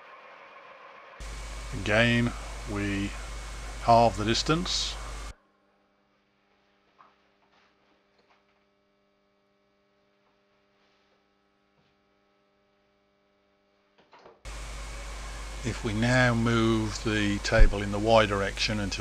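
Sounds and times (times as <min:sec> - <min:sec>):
faint steady hum: 0:00.2 - 0:19.0.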